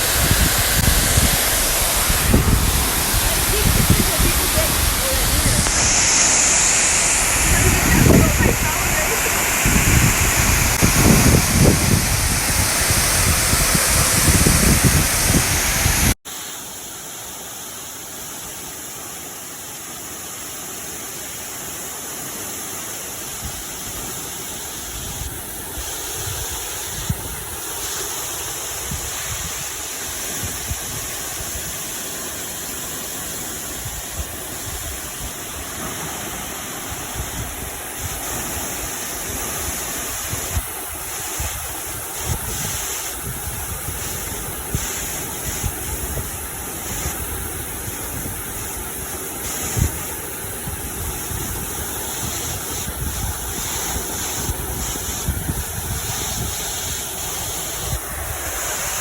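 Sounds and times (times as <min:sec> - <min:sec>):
creek water rushing: 0:00.0 - 0:59.0
steady flowing water: 0:00.0 - 0:59.0.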